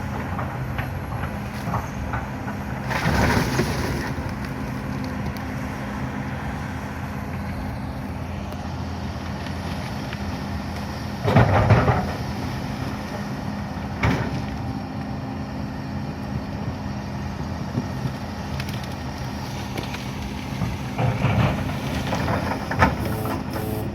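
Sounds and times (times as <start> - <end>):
diesel engine humming: 0.0 - 23.9.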